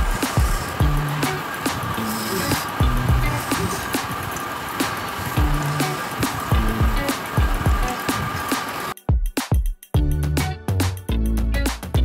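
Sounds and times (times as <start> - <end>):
music with deep bass beat: 0.0 - 12.0.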